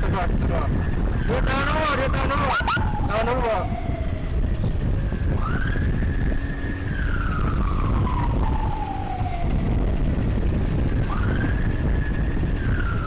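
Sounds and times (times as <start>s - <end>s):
road and wind rumble: 0.0s - 13.0s
electronic siren wailing: 0.5s - 13.0s.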